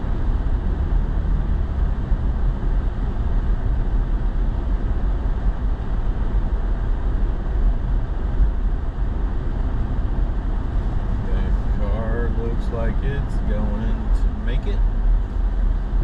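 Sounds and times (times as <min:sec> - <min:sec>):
truck engine and tyre rumble: 0:00.0 - 0:16.0.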